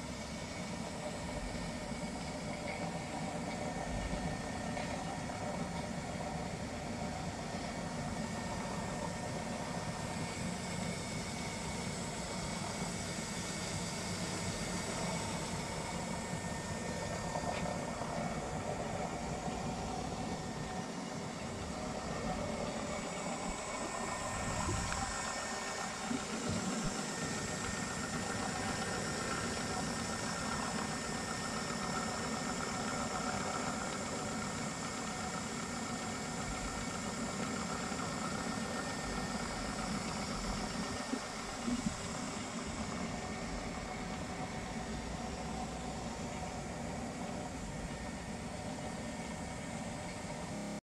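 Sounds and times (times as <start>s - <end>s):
chicken plucker motor whirring: 0.0s - 50.8s.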